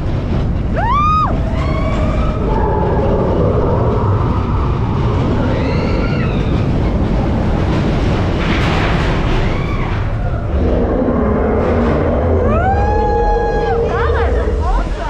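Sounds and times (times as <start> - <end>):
roller coaster rumbling on steel track: 0.0 - 15.0.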